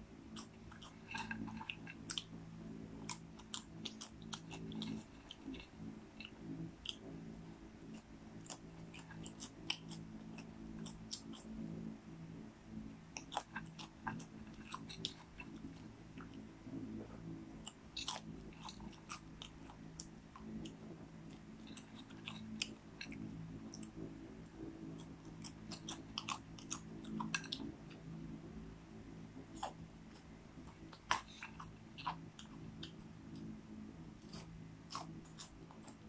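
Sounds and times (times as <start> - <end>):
steady low hum: 0.0 - 36.0
person chewing popcorn: 0.1 - 11.7, 12.9 - 28.1, 29.4 - 36.0.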